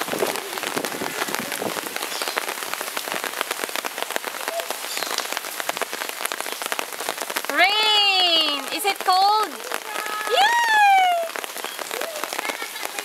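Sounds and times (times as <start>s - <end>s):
rain on hard surfaces: 0.0s - 13.0s.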